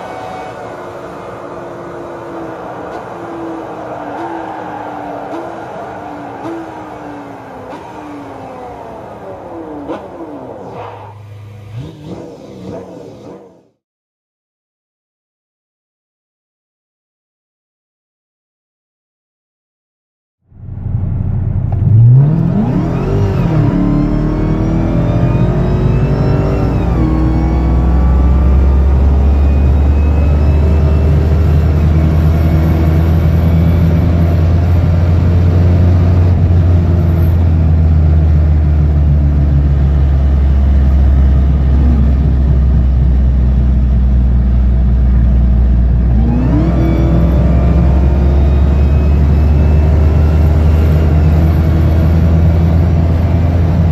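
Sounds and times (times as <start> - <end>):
sports car engine accelerating: 0.0 - 13.8, 20.5 - 53.9.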